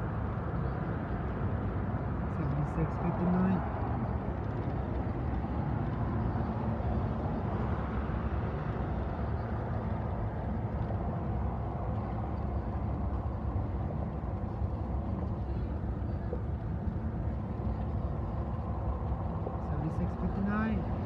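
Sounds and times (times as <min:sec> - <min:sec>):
low vehicle rumble: 0:00.0 - 0:21.0.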